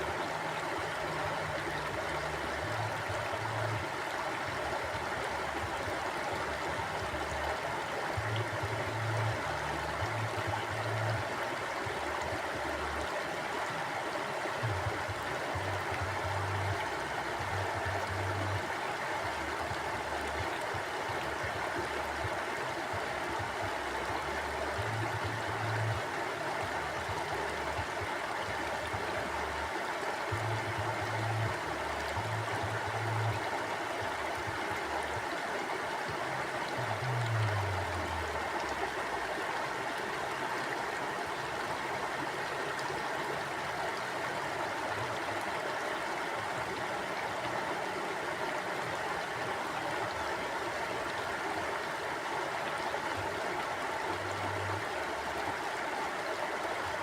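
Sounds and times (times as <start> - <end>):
mountain stream flowing: 0.0 - 57.0.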